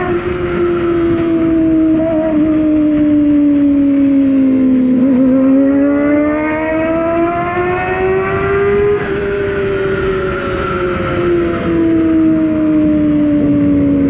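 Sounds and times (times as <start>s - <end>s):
low rushing noise: 0.0s - 14.0s
motorcycle engine accelerating: 0.0s - 14.0s.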